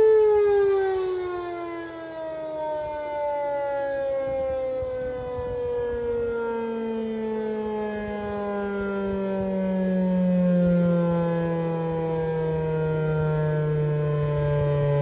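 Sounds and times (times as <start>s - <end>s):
outdoor warning siren winding down: 0.0s - 15.0s.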